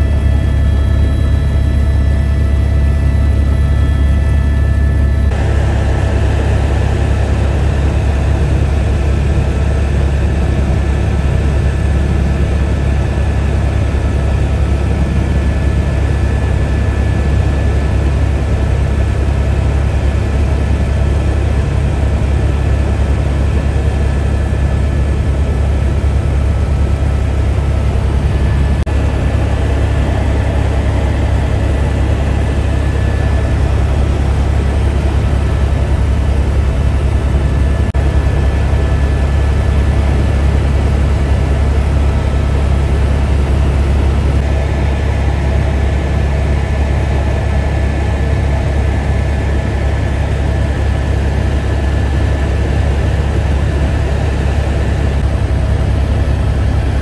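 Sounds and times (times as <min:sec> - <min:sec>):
helicopter engine and rotor drone: 0:00.0 - 0:57.0
thin steady whine: 0:00.0 - 0:57.0.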